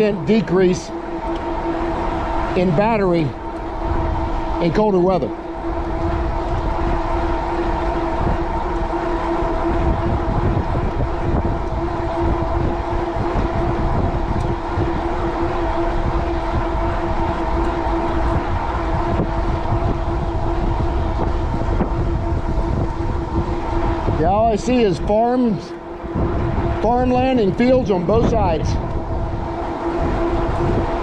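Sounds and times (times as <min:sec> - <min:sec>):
electric motor whine: 0:00.0 - 0:31.0
wind buffeting microphone: 0:00.0 - 0:31.0.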